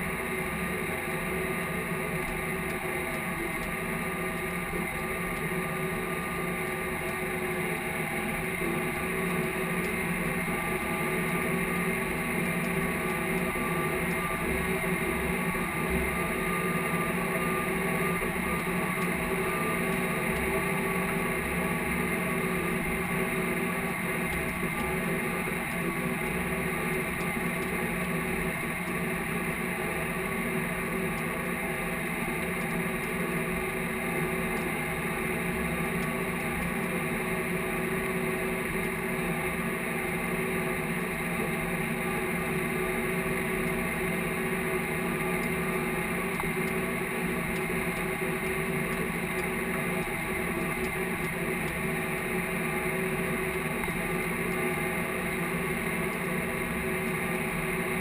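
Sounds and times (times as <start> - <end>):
tractor diesel engine drone: 0.0 - 58.0.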